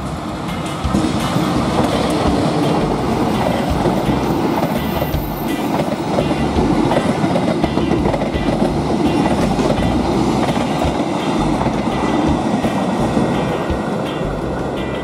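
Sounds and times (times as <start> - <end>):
train coaches rumbling past: 0.0 - 15.0
wheels clattering over rail joints: 0.0 - 15.0.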